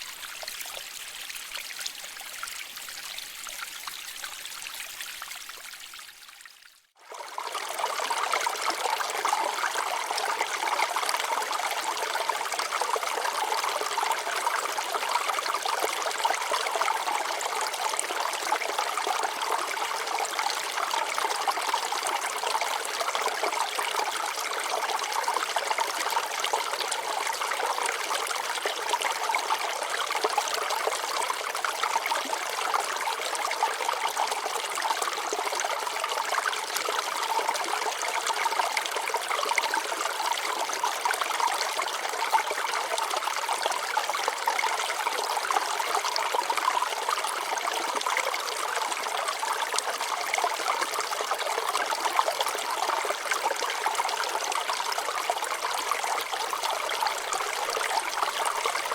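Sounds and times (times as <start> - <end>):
water trickling over rocks: 0.0 - 58.9.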